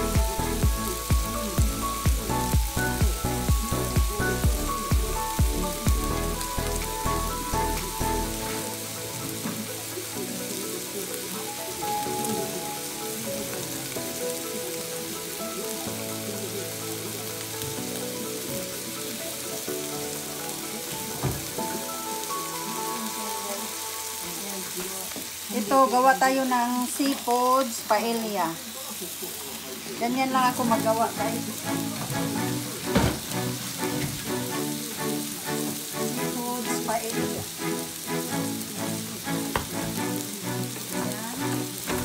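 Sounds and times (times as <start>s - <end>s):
background music: 0.0s - 28.5s, 29.9s - 42.0s
food sizzling in a pan: 0.0s - 42.0s.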